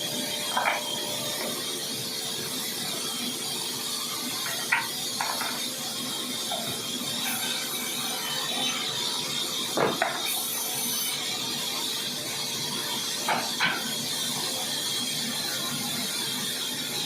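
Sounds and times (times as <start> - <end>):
woodworking machinery humming: 0.0 - 17.0.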